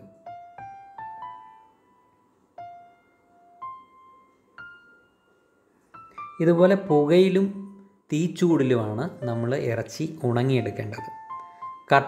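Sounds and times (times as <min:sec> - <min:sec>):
soft piano notes: 0:00.0 - 0:12.0.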